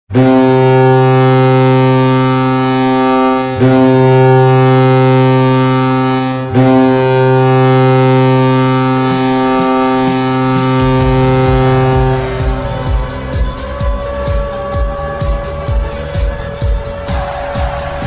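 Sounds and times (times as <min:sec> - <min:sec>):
deep goal horn blasts: 0:00.1 - 0:18.0.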